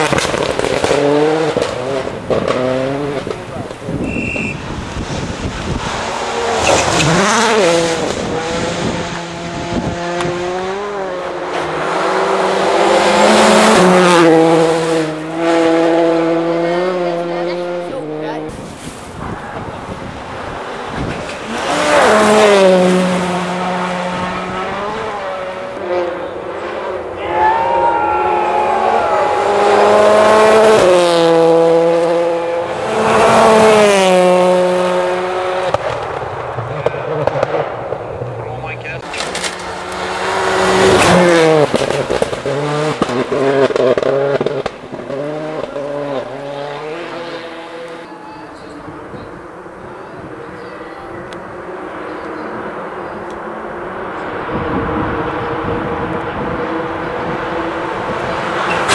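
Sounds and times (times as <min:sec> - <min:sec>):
rally car engine at high revs: 0:00.0 - 0:04.0, 0:04.6 - 0:18.7, 0:20.1 - 0:27.2, 0:28.3 - 0:48.0, 0:48.6 - 0:58.9.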